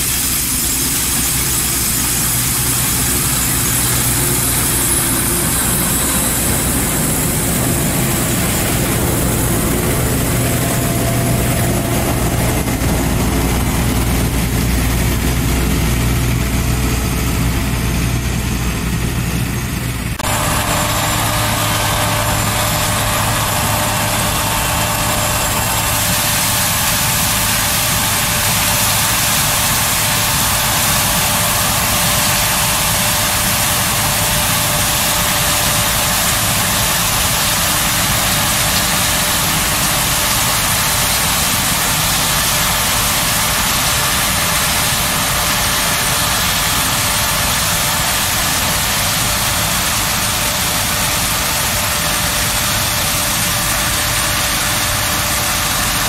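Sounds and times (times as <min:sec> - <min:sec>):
hiss: 0:00.0 - 0:16.4, 0:20.2 - 0:56.0
combine harvester engine drone: 0:00.0 - 0:56.0.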